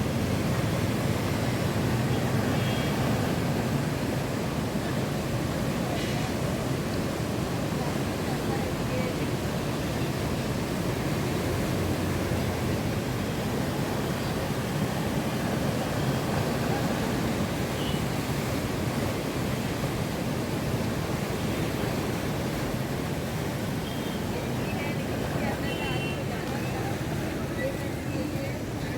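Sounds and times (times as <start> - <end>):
breaking sea waves: 0.0 - 28.9
wind: 0.0 - 28.9.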